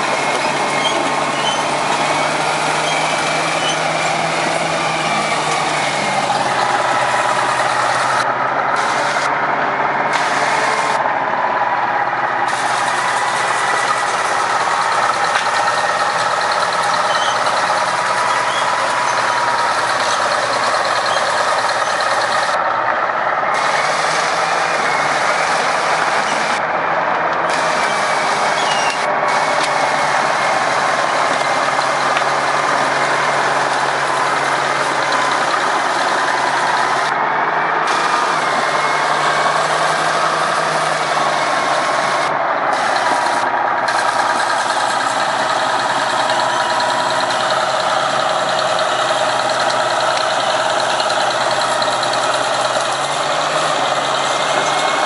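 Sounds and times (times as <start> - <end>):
heavy machinery droning: 0.0 - 55.0.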